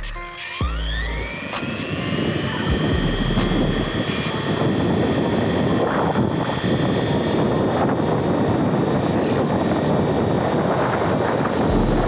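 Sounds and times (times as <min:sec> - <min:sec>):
electric motor whine: 0:00.0 - 0:12.0
wind and tyre noise: 0:00.7 - 0:12.0.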